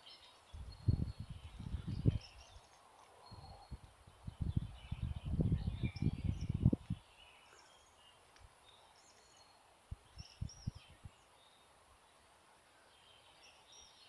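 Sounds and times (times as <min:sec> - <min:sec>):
songbirds chirping and trilling: 0:00.0 - 0:14.0.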